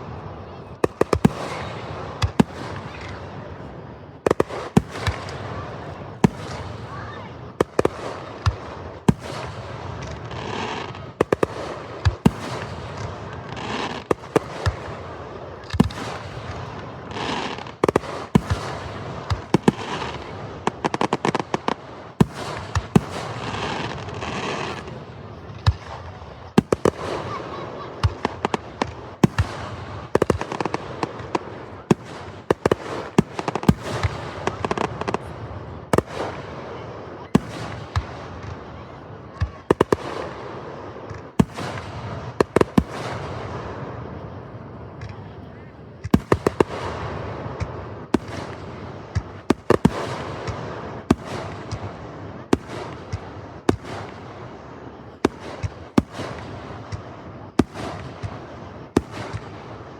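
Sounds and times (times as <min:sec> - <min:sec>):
fireworks bangs: 0:00.0 - 0:59.9
fireworks crackle and hiss: 0:00.0 - 0:59.9.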